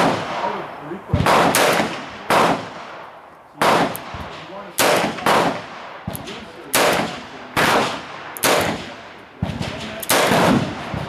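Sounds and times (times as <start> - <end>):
fainter gunshots: 0.0 - 11.0.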